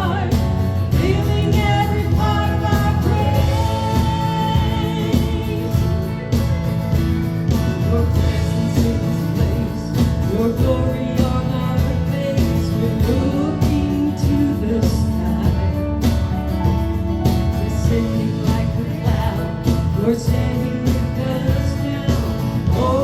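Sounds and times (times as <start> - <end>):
worship band music: 0.0 - 23.0.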